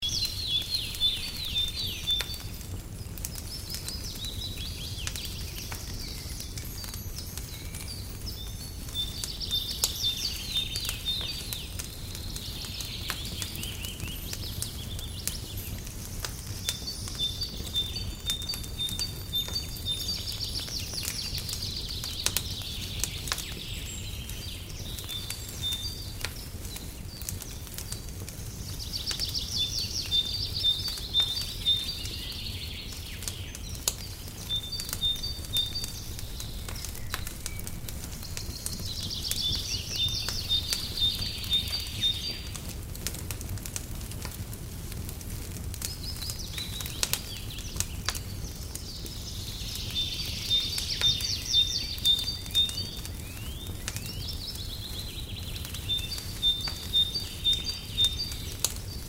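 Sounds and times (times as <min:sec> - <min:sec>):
small birds chirping: 0:00.0 - 0:59.0
wood fire crackling: 0:00.0 - 0:59.0.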